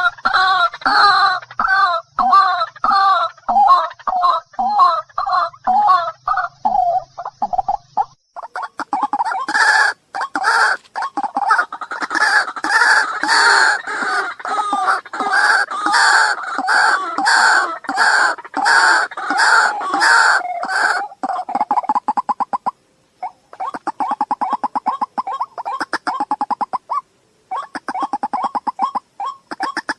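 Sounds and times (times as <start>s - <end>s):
waterhen harsh calls: 0.0s - 7.0s, 8.4s - 29.9s.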